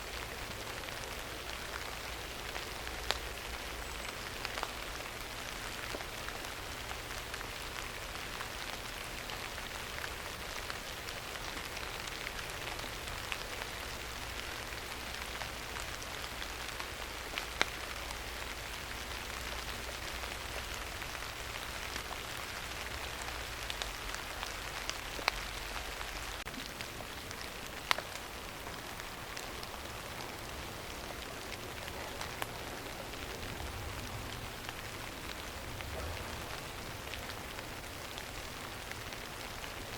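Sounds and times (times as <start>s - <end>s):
rain falling: 0.0s - 39.9s
sharp rain ticks: 0.0s - 39.9s.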